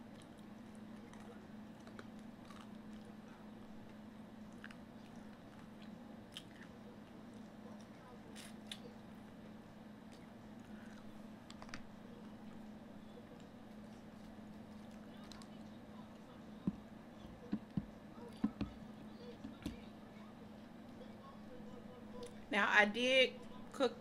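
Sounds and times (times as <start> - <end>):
chewing fried chicken: 0.0 - 22.5.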